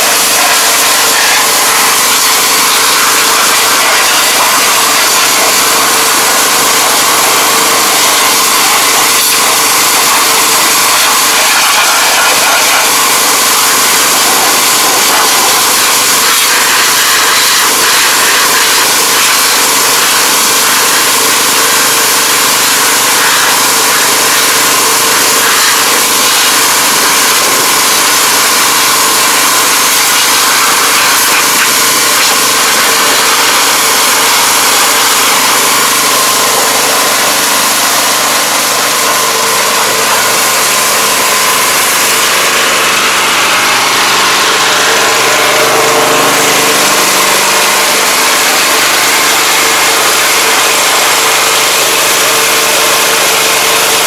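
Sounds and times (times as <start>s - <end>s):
pressure washer motor hum: 0.0s - 54.0s
water jet spraying on metal: 0.0s - 54.0s.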